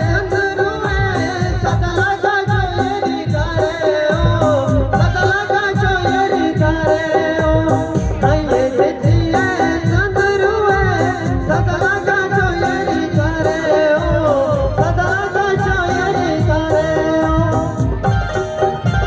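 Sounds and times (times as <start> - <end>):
folk song singing: 0.0 - 19.0
heavy drum beat: 0.0 - 19.0.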